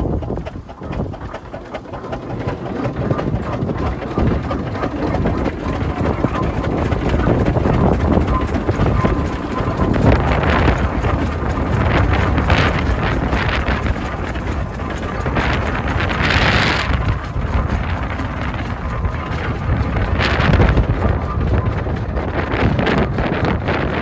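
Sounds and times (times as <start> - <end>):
steam traction engine running: 0.0 - 24.0
wind buffeting microphone: 0.0 - 24.0.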